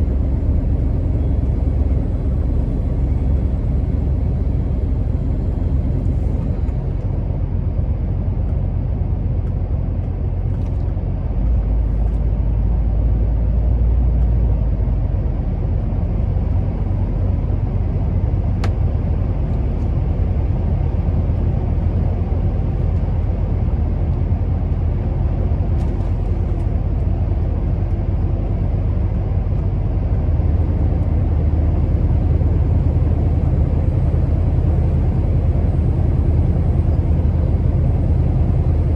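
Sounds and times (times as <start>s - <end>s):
diesel truck engine rumbling: 0.0s - 38.9s
road noise: 0.0s - 38.9s.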